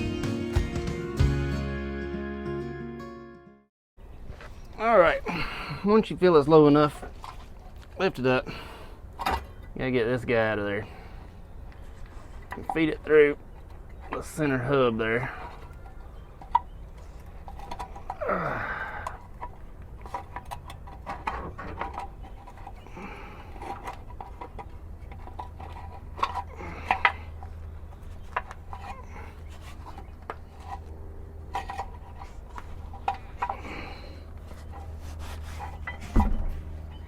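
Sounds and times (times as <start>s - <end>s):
tire scraping: 4.2s - 37.0s.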